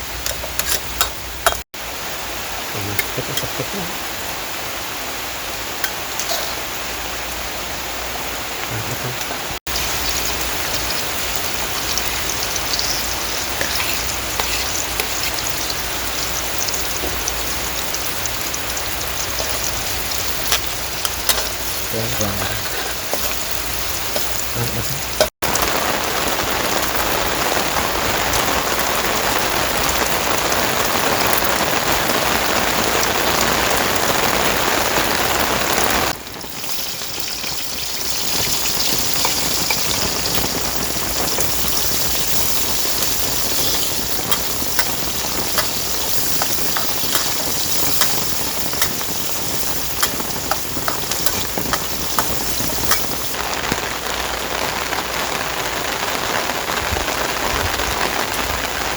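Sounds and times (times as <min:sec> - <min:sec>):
heavy rain falling: 0:01.3 - 0:58.9.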